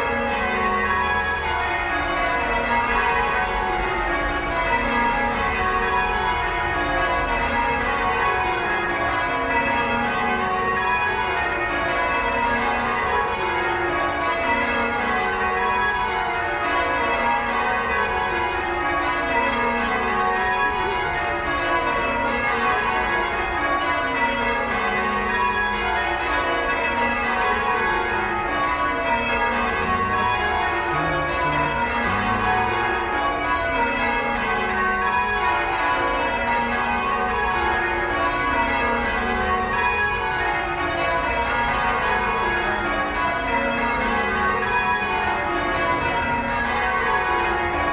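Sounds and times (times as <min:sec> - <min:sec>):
church bells ringing: 0:00.0 - 0:47.9.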